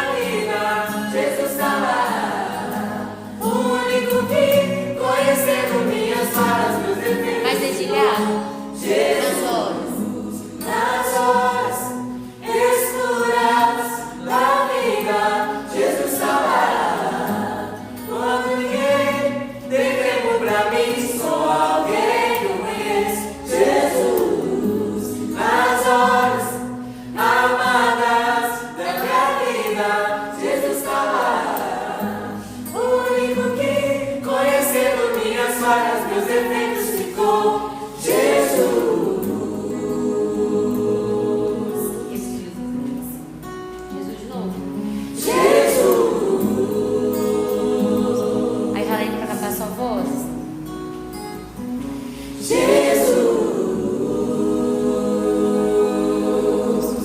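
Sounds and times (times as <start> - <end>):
mixed choir singing gospel: 0.0 - 50.8, 51.5 - 57.0.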